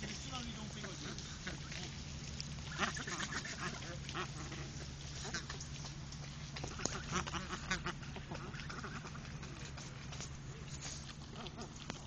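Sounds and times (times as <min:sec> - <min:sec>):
geese cackling: 0:00.0 - 0:12.0
steady low hum: 0:00.0 - 0:12.0.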